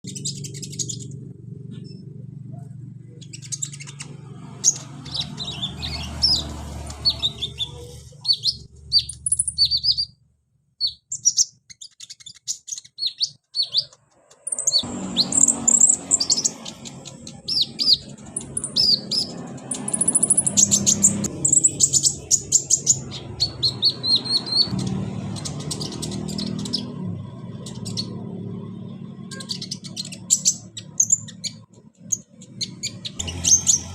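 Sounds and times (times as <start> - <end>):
bird chirping and twittering: 0.0 - 10.2, 10.8 - 33.9.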